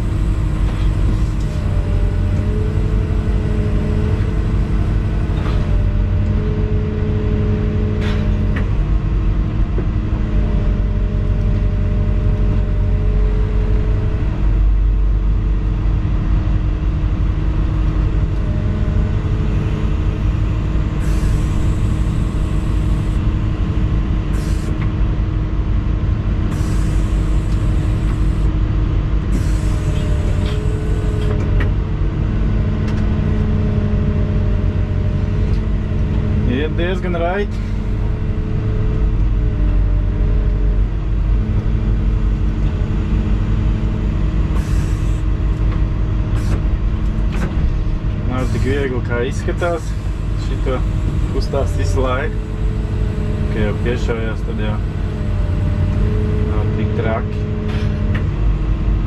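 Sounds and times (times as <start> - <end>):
excavator diesel engine: 0.0 - 59.0
hydraulic whine: 0.0 - 59.0.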